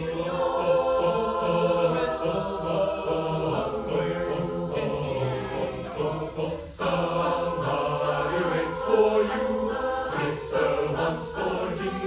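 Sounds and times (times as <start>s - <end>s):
choir singing in harmony: 0.0s - 12.0s.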